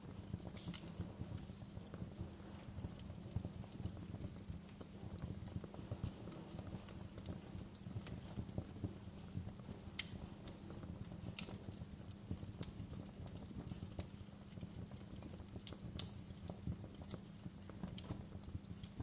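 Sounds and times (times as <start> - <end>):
low rumble of burning fire: 0.0 - 19.0
wood fire crackling: 0.0 - 19.0.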